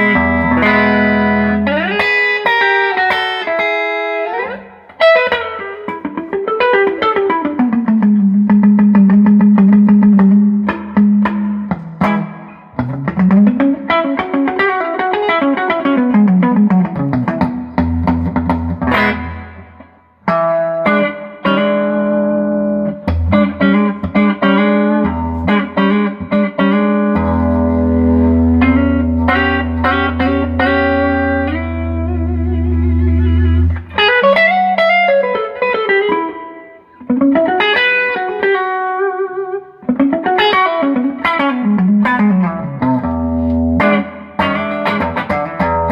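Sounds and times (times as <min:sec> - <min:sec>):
electric guitar notes and chords: 0:00.0 - 0:45.9.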